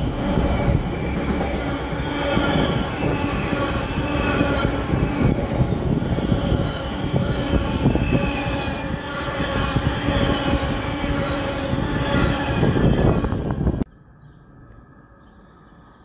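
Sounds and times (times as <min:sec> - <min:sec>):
train wheels rumbling on track: 0:00.0 - 0:13.9.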